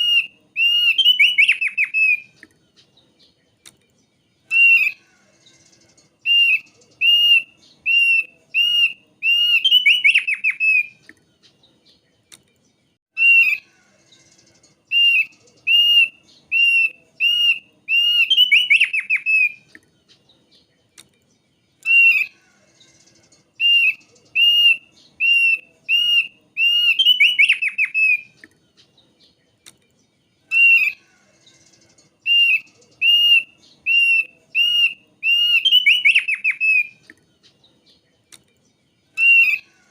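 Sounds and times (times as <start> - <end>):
bird whistled song with trill: 0.0 - 12.3, 13.2 - 20.8, 21.4 - 29.7, 30.4 - 39.7.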